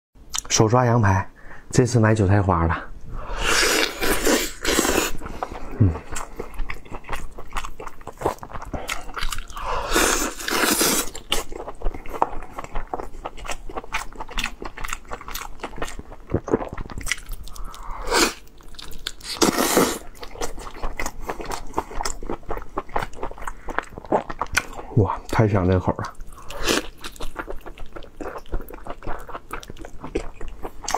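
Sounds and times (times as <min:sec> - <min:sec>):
wet biting and chewing: 0:03.5 - 0:24.8, 0:26.2 - 0:30.9.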